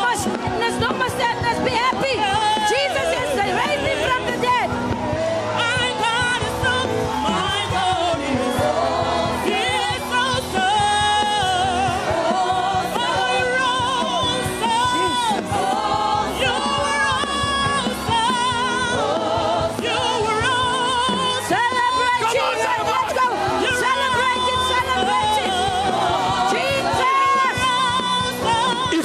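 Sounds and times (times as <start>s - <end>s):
gospel choir singing: 0.0s - 29.0s.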